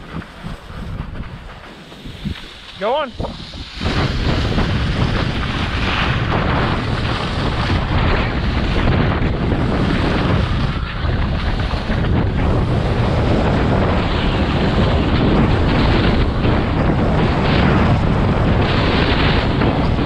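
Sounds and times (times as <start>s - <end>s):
skis sliding over snow: 0.0s - 20.0s
wind buffeting microphone: 0.0s - 20.0s.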